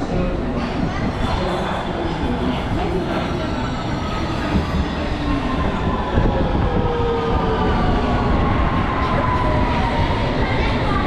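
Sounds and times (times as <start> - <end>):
passenger train running: 0.0 - 11.0.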